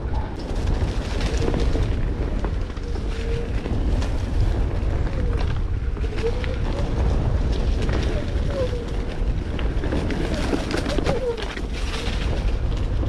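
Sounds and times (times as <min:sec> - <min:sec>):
tyre rumble on dirt trail: 0:00.0 - 0:13.0
wind over microphone: 0:00.0 - 0:13.0.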